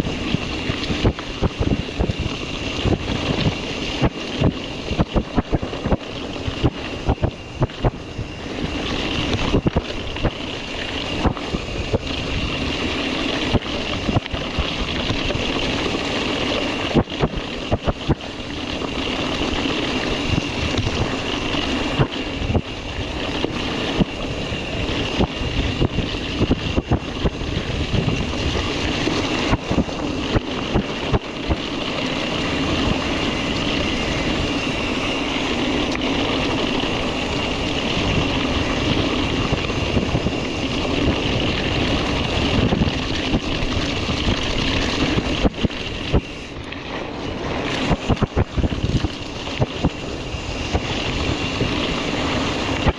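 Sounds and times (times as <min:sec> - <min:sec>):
bike rattling over bumps: 0:00.0 - 0:52.9
bike tyres crunching on dirt: 0:00.0 - 0:52.9
steady high buzz: 0:00.0 - 0:52.9
wind on microphone: 0:00.0 - 0:52.9.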